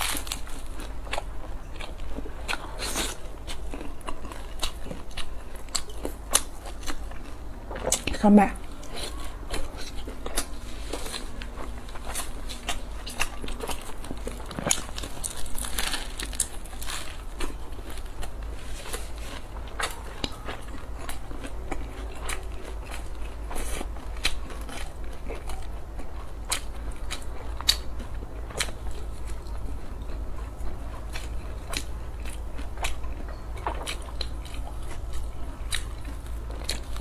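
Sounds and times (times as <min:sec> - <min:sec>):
biting and chewing food: 0:00.0 - 0:37.0.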